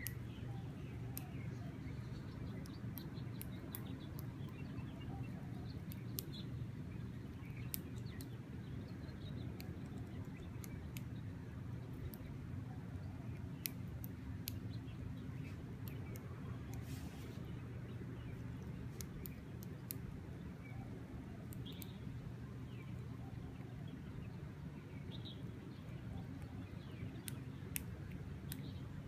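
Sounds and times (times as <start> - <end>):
birds chirping: 0.0 - 29.0
low background rumble: 0.0 - 29.0.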